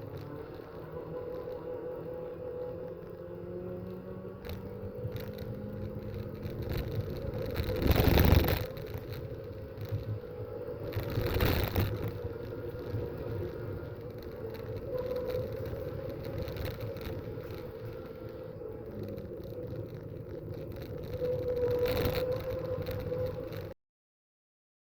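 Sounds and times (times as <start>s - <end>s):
race cars passing by: 0.0s - 23.7s
steady engine drone: 0.0s - 23.7s.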